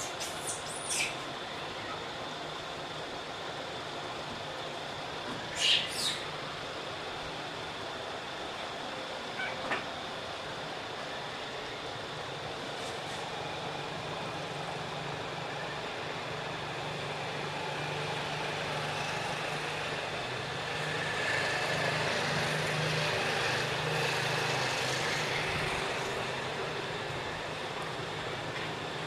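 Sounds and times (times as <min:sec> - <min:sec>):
road traffic engine hum: 0:00.0 - 0:29.0.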